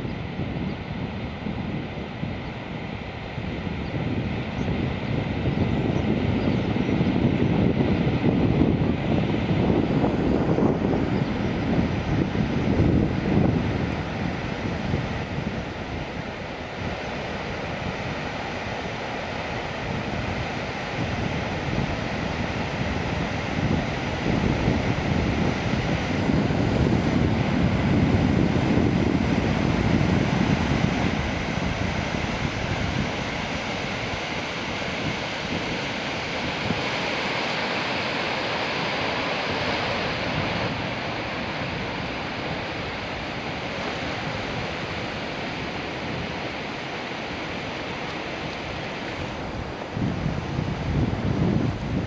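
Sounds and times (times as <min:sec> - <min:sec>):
wind buffeting microphone: 0:00.0 - 0:52.0
rushing churning water: 0:06.5 - 0:52.0.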